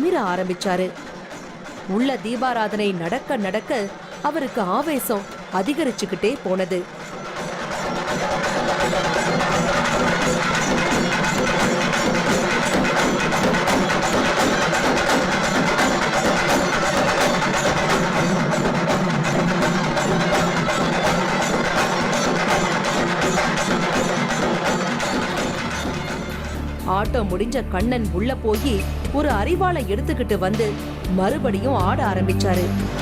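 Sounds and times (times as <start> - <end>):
fast steady drumming: 0.0 - 33.0.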